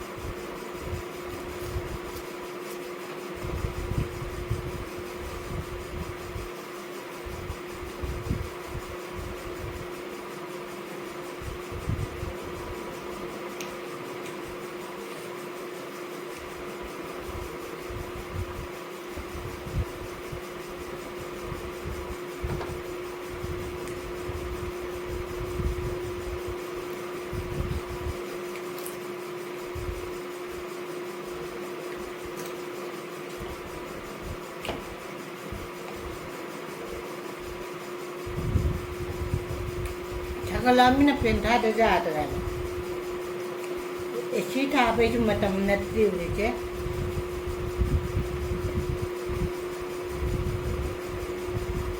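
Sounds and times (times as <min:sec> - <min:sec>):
electric fan humming: 0:00.0 - 0:51.9.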